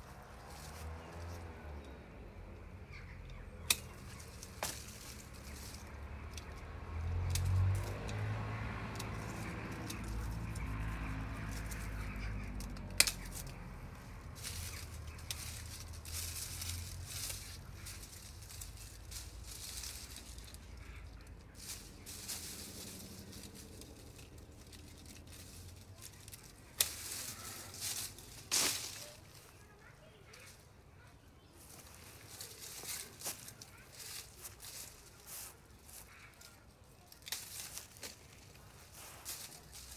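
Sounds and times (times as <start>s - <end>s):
dry leaves rustling: 0.0s - 39.9s
pruning shears snipping: 3.2s - 30.6s, 32.2s - 39.9s.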